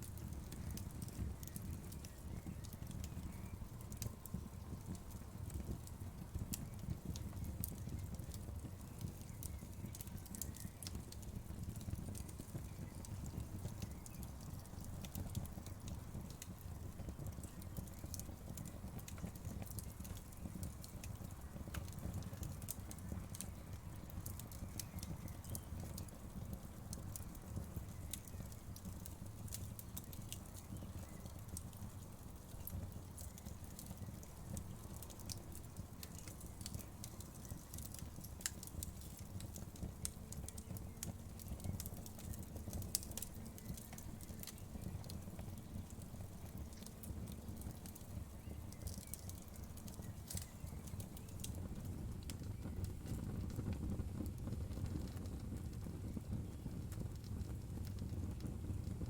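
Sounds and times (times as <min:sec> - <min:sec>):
fire burning: 0:00.0 - 0:59.0
fire pops and snaps: 0:00.0 - 0:59.0.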